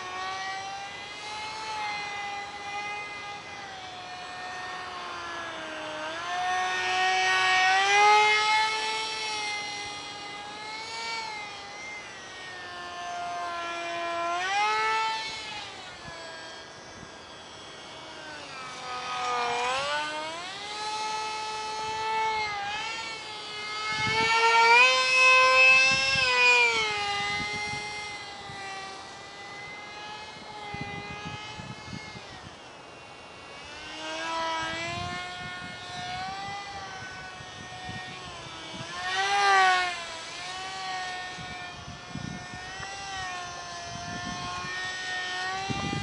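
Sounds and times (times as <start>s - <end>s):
small electric motor whining: 0.0s - 46.0s.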